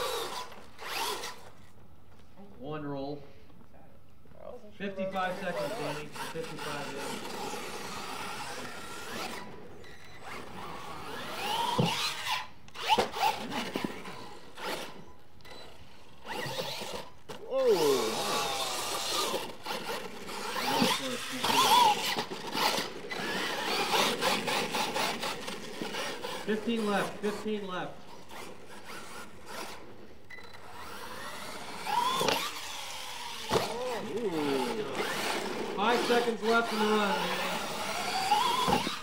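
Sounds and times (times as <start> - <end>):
rc truck motor whining: 0.0 - 1.8, 5.0 - 39.0.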